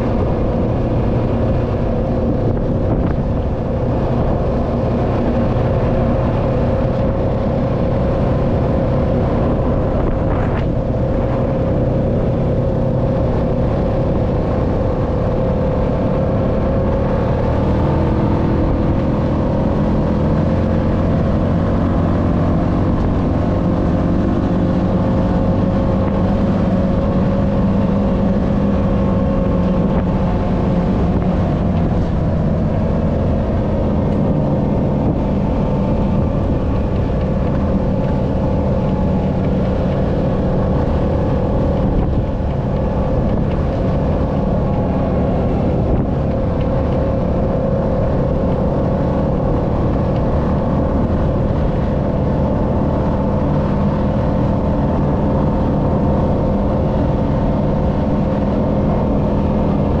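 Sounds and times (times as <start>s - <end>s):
atv engine running: 0.0s - 60.0s.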